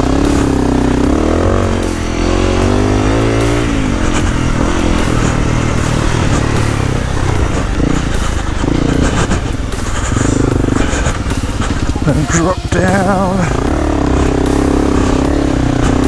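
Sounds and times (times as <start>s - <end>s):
bike clattering over rough ground: 0.0s - 16.0s
dirt bike engine revving: 0.0s - 16.0s.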